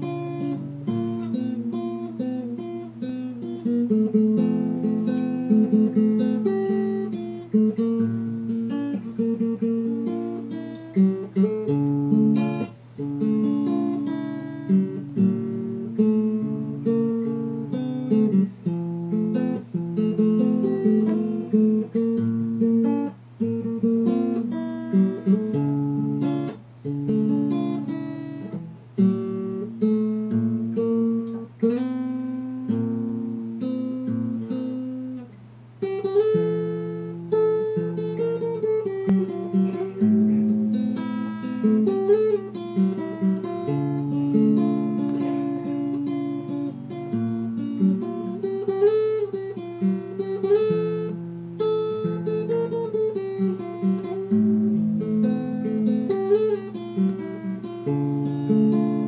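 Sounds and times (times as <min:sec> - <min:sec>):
fingerstyle acoustic guitar: 0:00.0 - 0:59.0.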